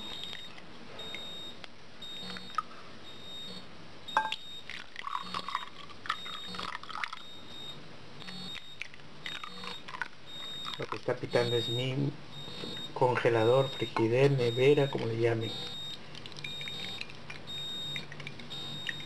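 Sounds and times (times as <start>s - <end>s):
freezer alarm short high beeps: 0.0s - 5.5s, 6.1s - 19.0s.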